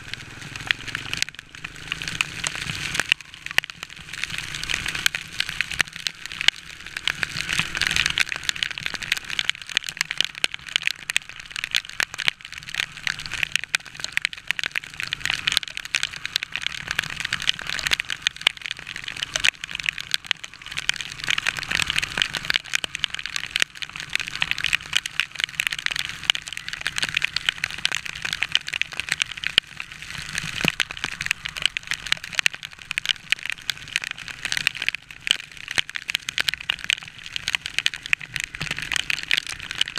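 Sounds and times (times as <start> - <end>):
heavy rain hitting microphone: 0.0 - 39.9.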